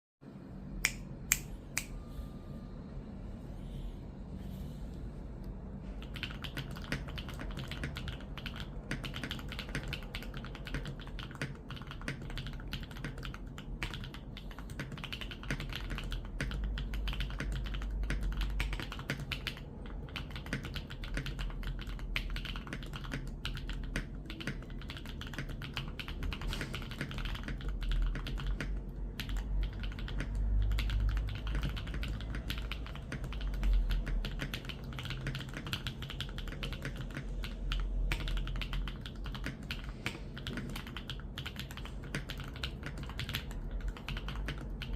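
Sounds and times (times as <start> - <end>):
mechanical keyboard typing: 6.0 - 44.9.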